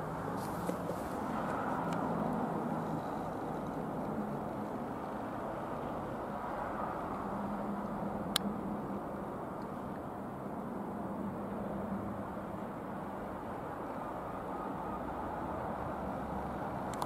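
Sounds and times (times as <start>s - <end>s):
jet flying overhead: 0.0s - 17.0s.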